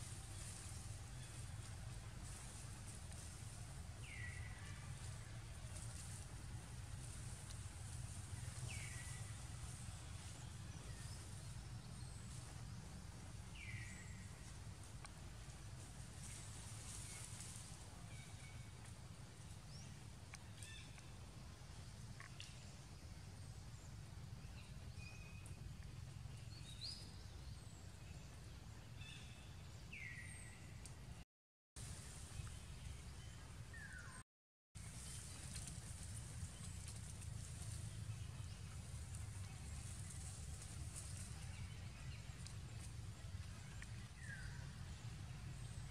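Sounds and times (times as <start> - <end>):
low rumble and hiss: 0.0 - 31.2, 31.8 - 34.2, 34.8 - 45.9.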